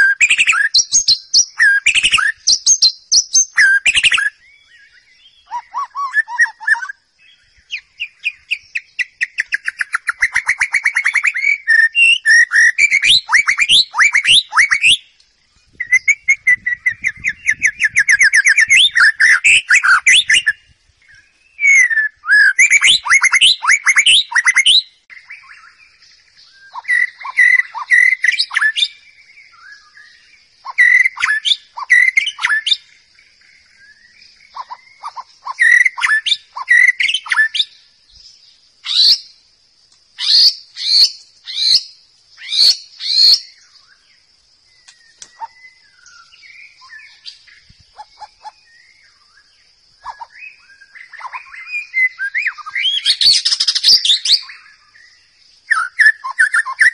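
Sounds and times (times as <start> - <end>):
bird singing whistled phrases: 0.0 - 33.0, 33.6 - 39.4, 40.2 - 44.1, 44.7 - 56.9.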